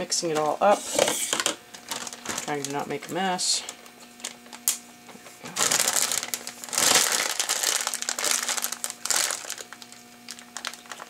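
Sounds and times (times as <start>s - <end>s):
plastic bag crinkling: 0.0s - 4.7s, 5.4s - 11.0s.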